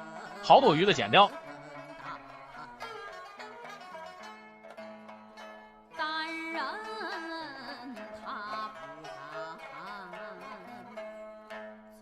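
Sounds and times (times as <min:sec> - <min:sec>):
traditional melody with gliding notes: 0:00.0 - 0:12.0.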